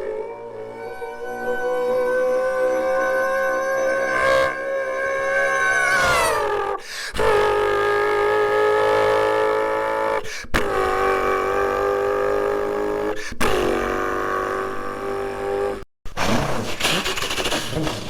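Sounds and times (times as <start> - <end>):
person imitating a car: 0.2 - 8.7, 9.8 - 14.6, 16.2 - 18.0.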